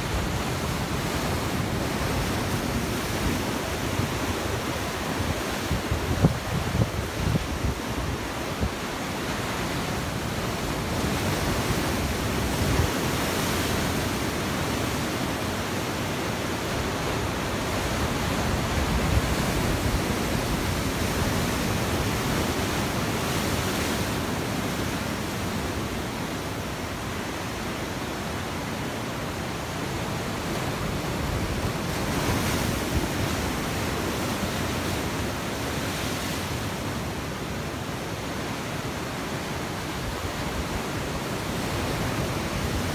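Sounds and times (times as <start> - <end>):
surf washing over rocks: 0.0 - 42.9.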